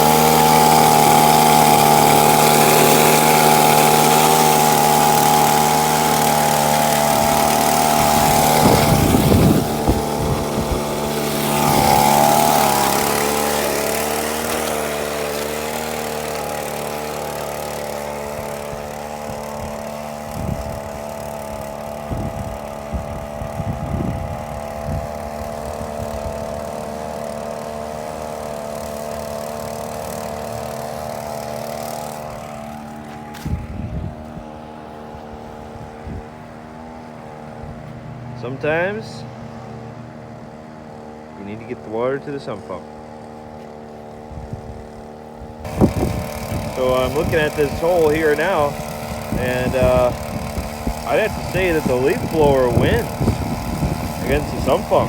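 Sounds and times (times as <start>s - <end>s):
leaf blower engine with air blast: 0.0s - 55.0s.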